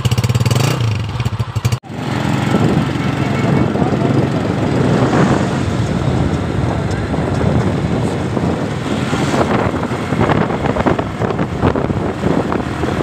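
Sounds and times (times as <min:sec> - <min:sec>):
car engine: 0:00.0 - 0:13.0
road noise: 0:00.0 - 0:13.0
wind buffeting microphone: 0:02.2 - 0:13.0.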